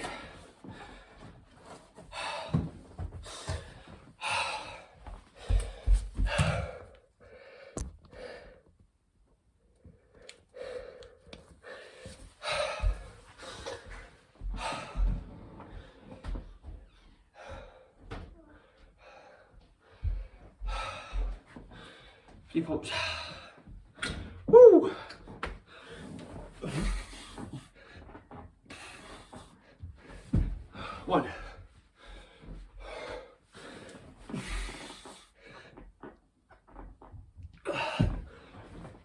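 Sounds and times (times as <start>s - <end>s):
man breathing hard: 0.0s - 8.8s, 9.8s - 16.4s, 17.0s - 23.8s, 24.8s - 35.9s, 37.6s - 39.0s.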